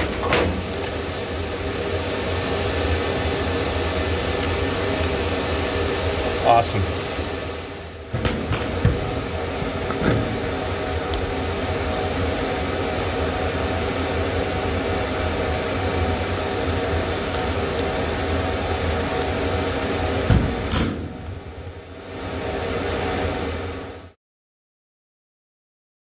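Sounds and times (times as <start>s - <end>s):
server room fan hum: 0.0s - 24.2s.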